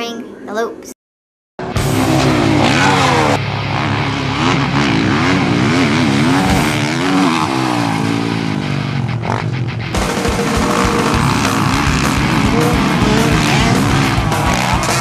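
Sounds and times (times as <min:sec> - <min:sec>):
engine revving: 0:01.6 - 0:15.0
engine running steadily: 0:01.7 - 0:15.0.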